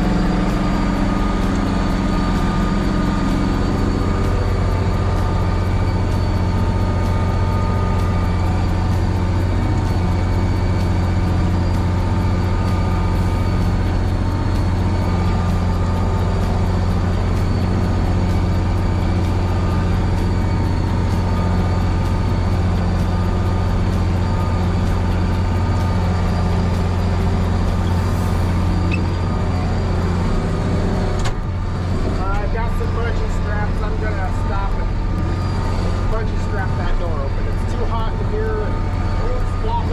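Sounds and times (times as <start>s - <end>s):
high whine: 0.0s - 39.9s
tractor diesel engine droning: 0.0s - 39.9s.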